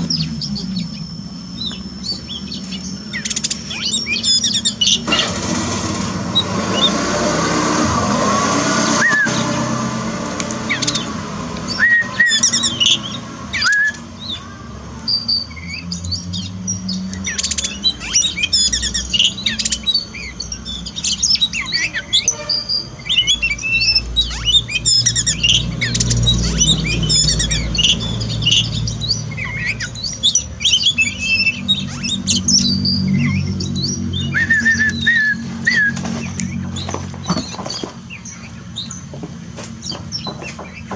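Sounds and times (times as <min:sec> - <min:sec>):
steady low rumble: 0:00.0 - 0:06.9, 0:07.7 - 0:40.4
songbird chirps and trills: 0:00.0 - 0:40.9.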